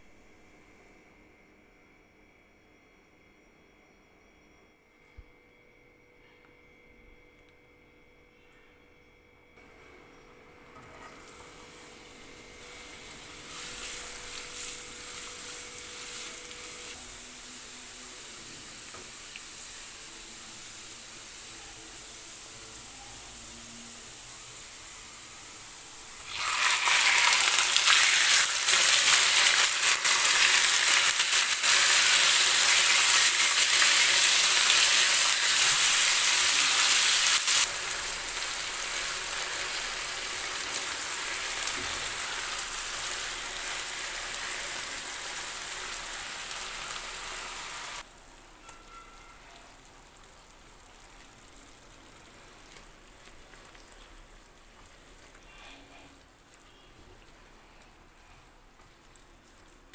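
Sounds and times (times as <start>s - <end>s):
food frying in hot oil: 9.6s - 59.9s.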